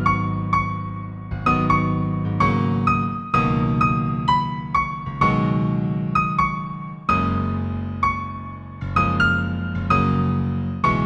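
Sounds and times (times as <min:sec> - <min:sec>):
slow gentle solo piano: 0:00.0 - 0:11.0.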